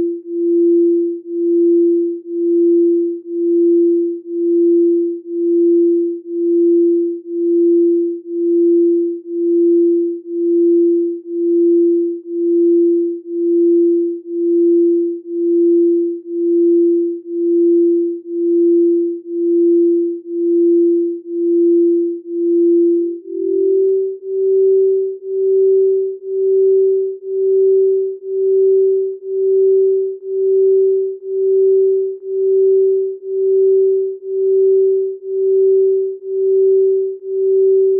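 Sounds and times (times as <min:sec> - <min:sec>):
pulsing sine tone: 0:00.0 - 0:37.9.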